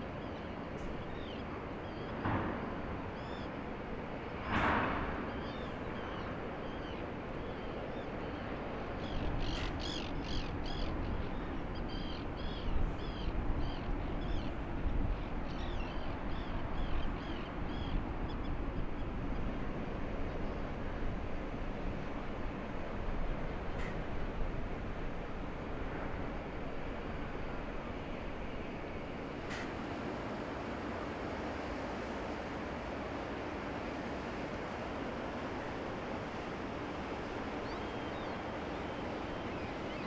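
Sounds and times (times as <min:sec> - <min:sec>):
harbour noise: 0:00.0 - 0:40.0
low rumble of wind: 0:00.0 - 0:40.0.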